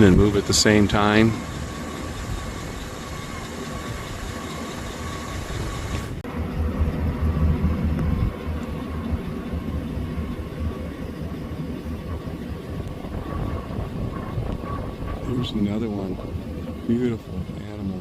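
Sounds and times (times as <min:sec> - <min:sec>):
vehicle engine rumble with whine: 0:00.0 - 0:18.0.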